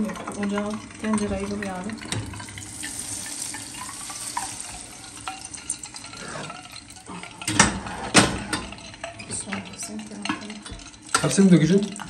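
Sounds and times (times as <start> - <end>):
hot oil sizzling on food: 0.0 - 12.0.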